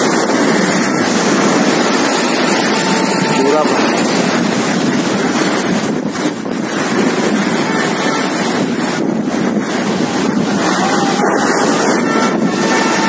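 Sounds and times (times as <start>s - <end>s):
waves breaking against seawall: 0.0s - 13.0s
wind buffeting microphone: 0.0s - 13.0s.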